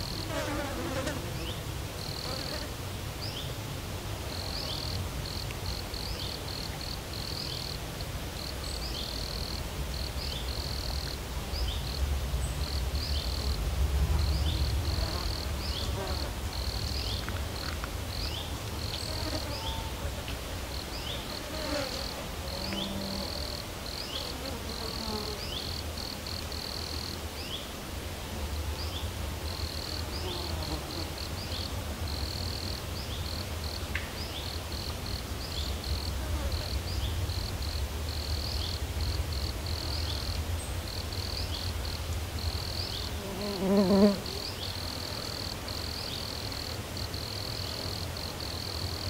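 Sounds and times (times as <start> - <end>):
insects chirping: 0.0 - 2.6, 4.3 - 27.8, 28.6 - 49.0.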